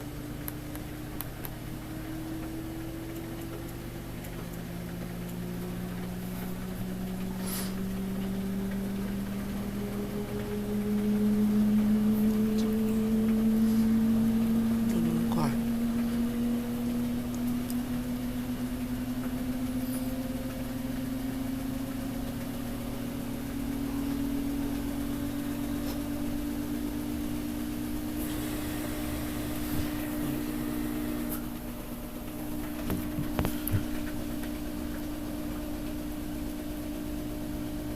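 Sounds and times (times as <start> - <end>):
washing machine motor hum: 0.0 - 37.9.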